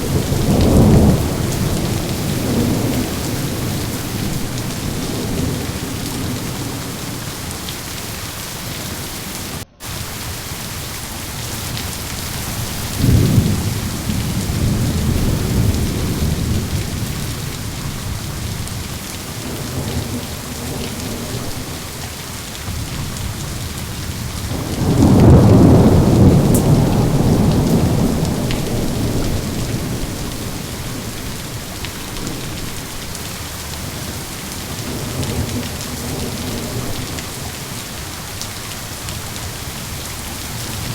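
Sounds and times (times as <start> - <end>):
heavy rain: 0.0 - 40.9
thunder rumbling: 0.0 - 40.9.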